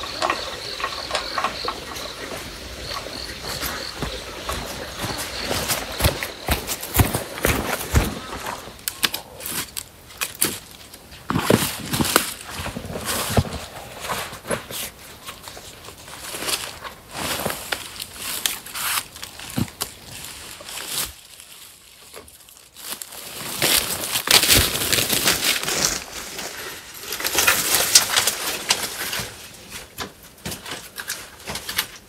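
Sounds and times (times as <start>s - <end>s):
leaves crunching underfoot: 0.0s - 13.9s, 16.1s - 29.2s.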